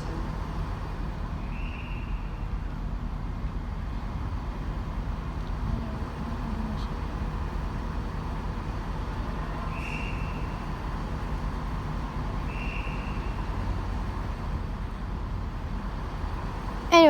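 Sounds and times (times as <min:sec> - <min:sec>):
diesel train idling: 0:00.0 - 0:17.0.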